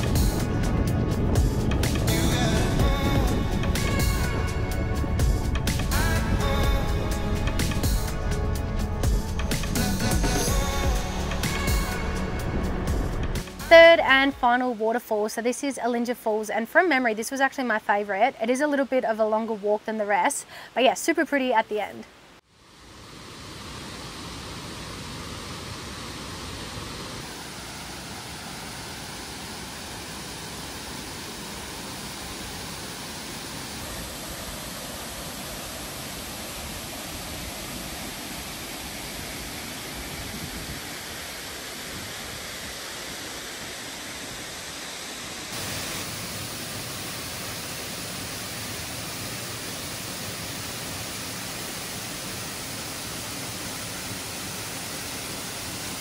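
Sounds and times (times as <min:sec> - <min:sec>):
waterfall rushing: 0:00.0 - 0:14.7, 0:22.9 - 0:56.0.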